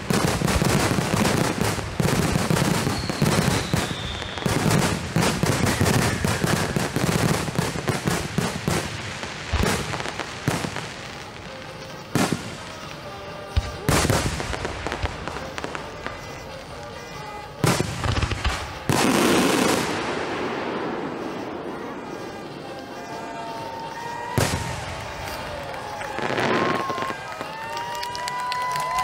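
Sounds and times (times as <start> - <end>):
fireworks booming and crackling: 0.0 - 29.0
loud firework bangs: 0.0 - 29.0.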